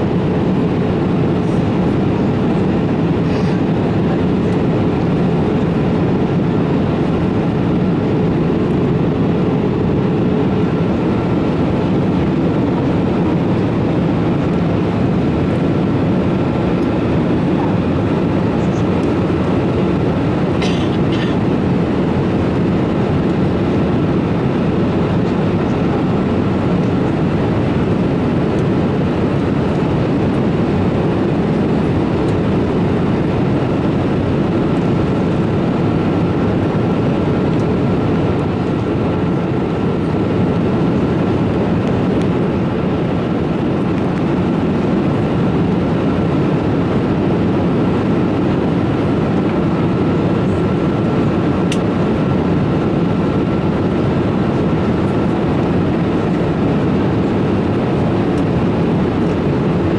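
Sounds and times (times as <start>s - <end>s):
airliner cabin rushing hum: 0.0s - 59.9s.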